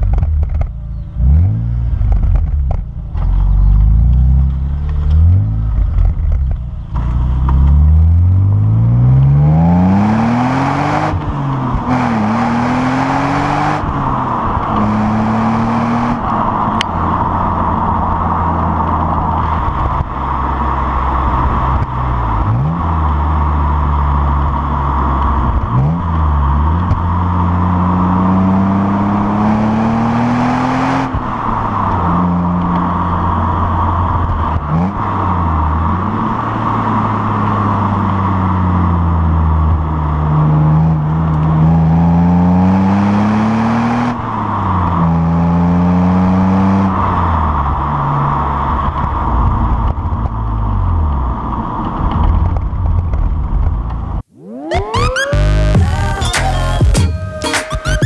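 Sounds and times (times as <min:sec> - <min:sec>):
car exhaust revving: 0:00.0 - 0:51.7
road and wind noise: 0:00.0 - 0:57.0.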